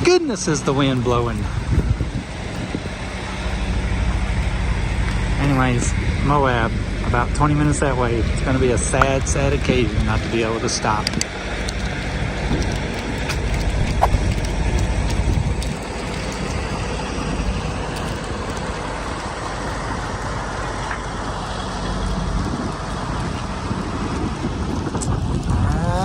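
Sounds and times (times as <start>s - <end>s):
low engine hum: 0.0s - 26.0s
road and wind noise: 0.0s - 26.0s.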